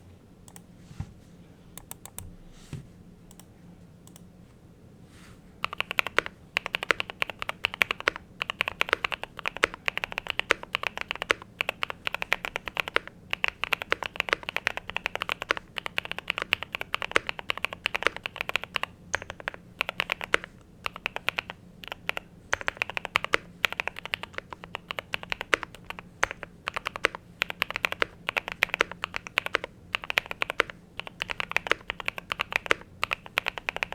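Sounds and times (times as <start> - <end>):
typing on mechanical keyboard: 5.6 - 33.9.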